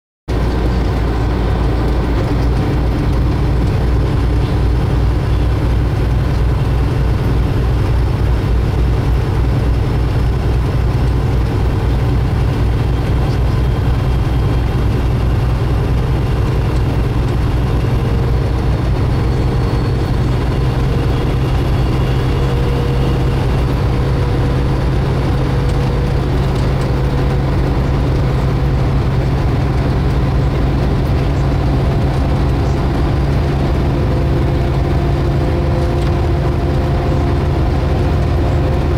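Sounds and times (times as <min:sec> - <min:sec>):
road noise: 0:00.3 - 0:38.9
truck engine drone: 0:00.3 - 0:38.9.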